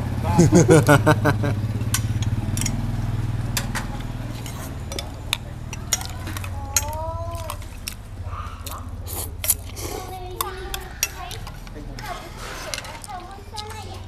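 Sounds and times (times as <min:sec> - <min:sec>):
low motorbike engine: 0:00.0 - 0:12.1
utensils clinking on steel bowls: 0:01.8 - 0:14.0.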